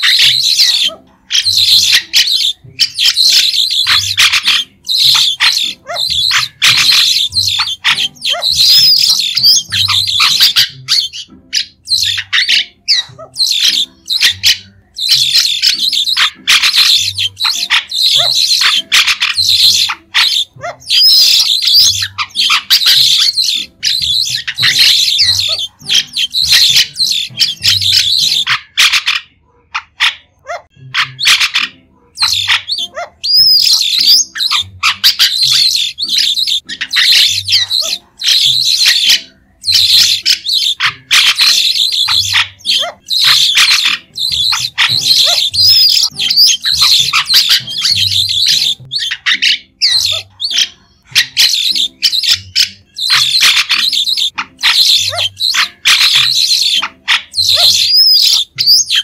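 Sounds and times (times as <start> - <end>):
starlings chattering: 0.0 - 59.0.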